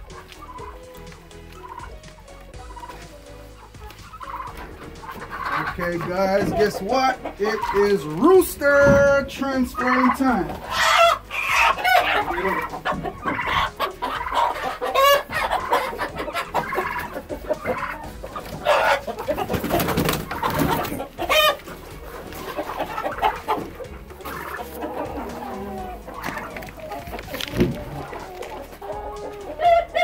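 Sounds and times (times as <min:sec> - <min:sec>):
chickens clucking and squawking: 0:00.0 - 0:30.0.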